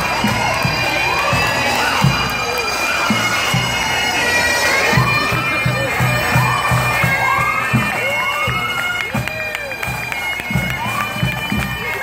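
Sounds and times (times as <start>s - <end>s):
bagpipes playing: 0.0s - 12.0s
marching drums: 0.0s - 12.0s.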